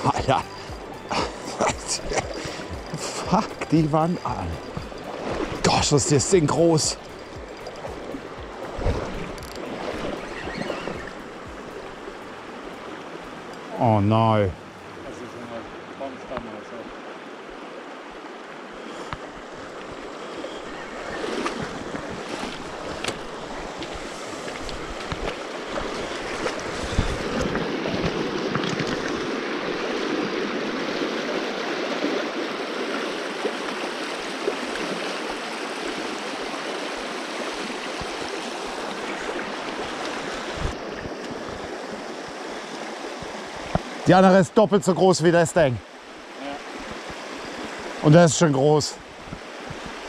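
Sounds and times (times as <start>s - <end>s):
river water rushing over stones: 0.0s - 50.0s.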